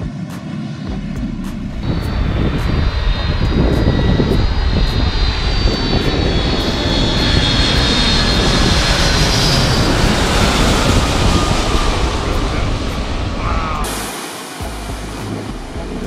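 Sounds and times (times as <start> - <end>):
jet engine rumble and whine: 0.0 - 16.0.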